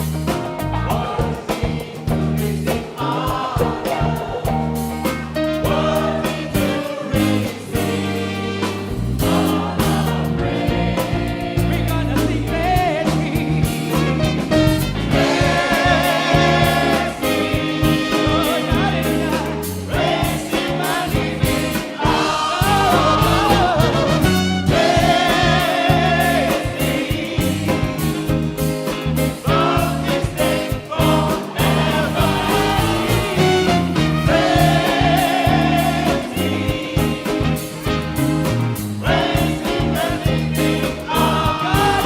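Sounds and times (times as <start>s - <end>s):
choir singing a hymn: 0.0s - 42.0s
instrumental accompaniment: 0.0s - 42.0s
steady bass line: 0.0s - 42.0s.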